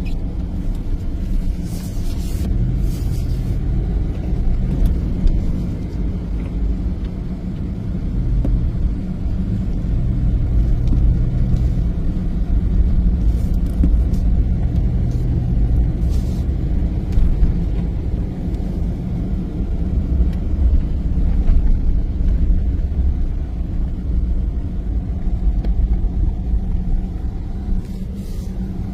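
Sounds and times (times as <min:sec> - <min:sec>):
car driving low rumble: 0:00.0 - 0:28.9.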